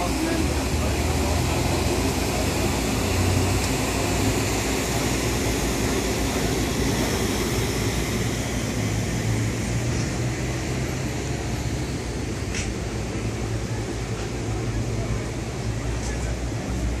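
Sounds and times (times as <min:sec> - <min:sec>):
fire truck engines idling: 0:00.0 - 0:17.0.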